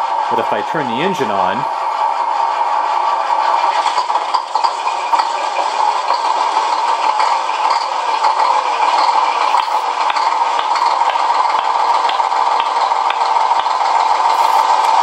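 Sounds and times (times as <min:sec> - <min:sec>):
truck engine idling through speaker: 0:00.2 - 0:02.2, 0:03.3 - 0:15.0.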